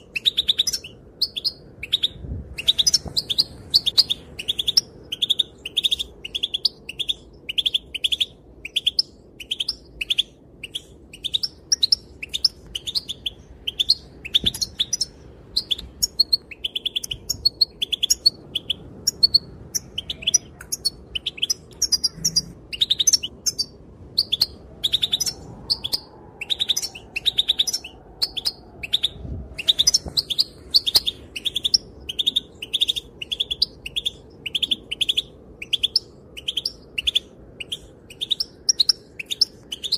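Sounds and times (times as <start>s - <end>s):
goldfinch chirping: 0.2s - 39.9s.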